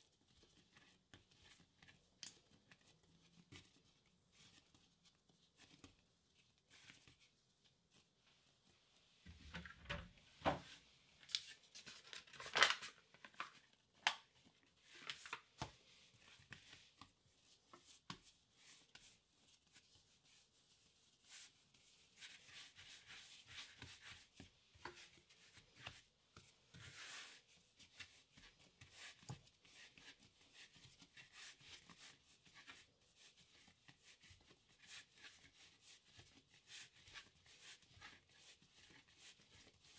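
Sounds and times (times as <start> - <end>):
hands kneading bread dough: 0.0 - 9.3, 13.3 - 39.9.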